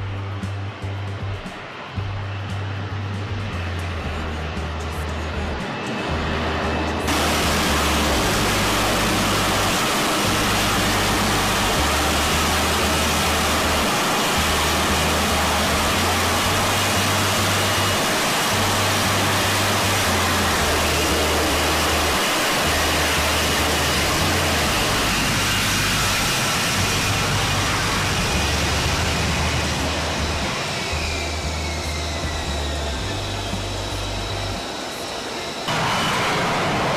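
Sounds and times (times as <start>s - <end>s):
jet engine steady rushing: 0.0s - 36.9s.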